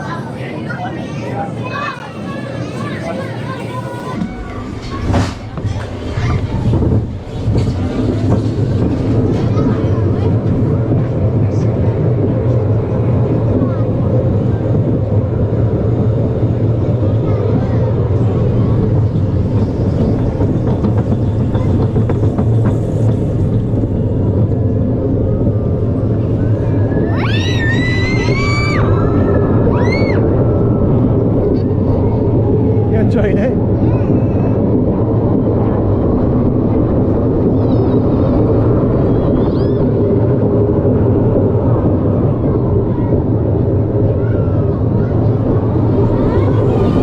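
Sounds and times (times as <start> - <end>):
roller coaster train rumbling: 0.0 - 47.0.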